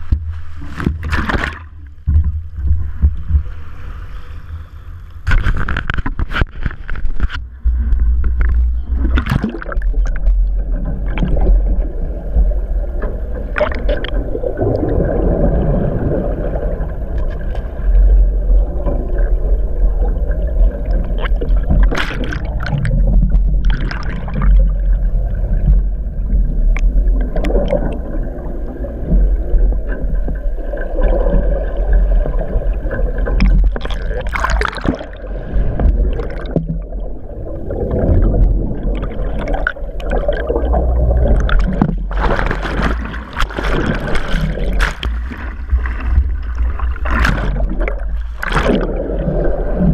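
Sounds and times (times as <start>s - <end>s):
water splashing: 0.0s - 4.3s, 5.2s - 49.9s
underwater churning rumble: 0.0s - 49.9s.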